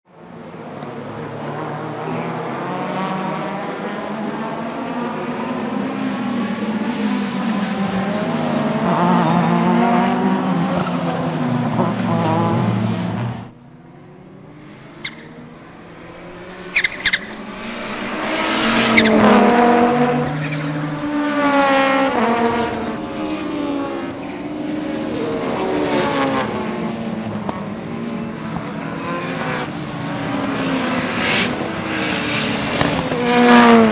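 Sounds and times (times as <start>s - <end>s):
turbocharged engine accelerating: 1.5s - 33.9s.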